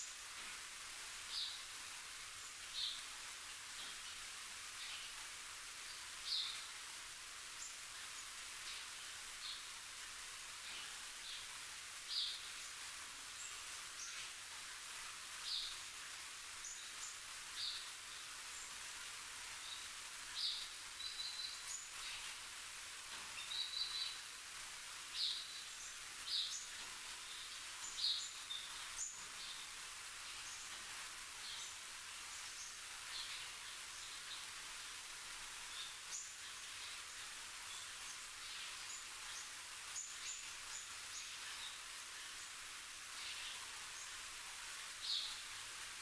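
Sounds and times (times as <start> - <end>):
small birds chirping: 0.0 - 46.0
steady outdoor hiss: 0.0 - 46.0.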